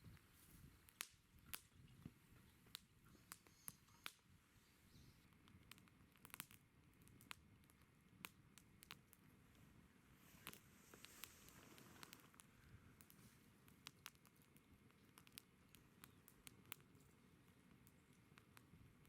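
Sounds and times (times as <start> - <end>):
campfire crackling and popping: 0.0 - 19.0
faint low hiss: 0.0 - 19.0.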